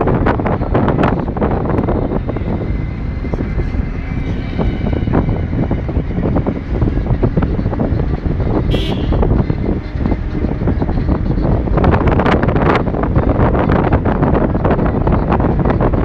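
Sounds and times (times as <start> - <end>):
road and engine noise: 0.0 - 16.0
wind buffeting microphone: 0.0 - 16.0.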